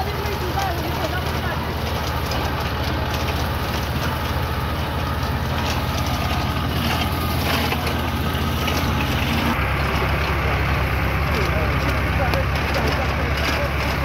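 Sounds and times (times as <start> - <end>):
tractor engine running under load: 0.0 - 14.0.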